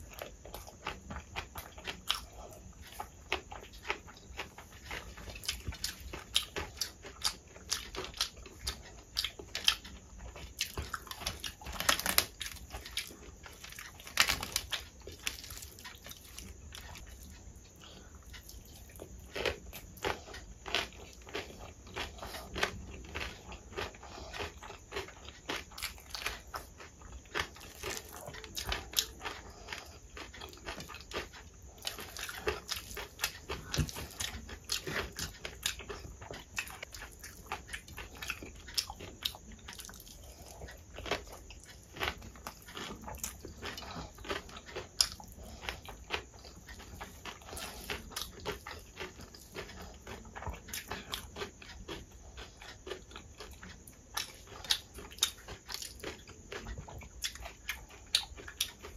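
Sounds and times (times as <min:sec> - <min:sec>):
crunchy food chewing: 0:00.0 - 0:58.9.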